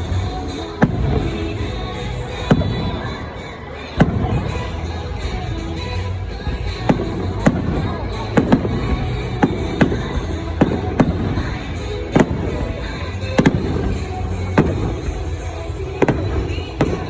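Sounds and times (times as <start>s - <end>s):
background music: 0.0s - 17.0s
fireworks bangs: 0.5s - 17.0s.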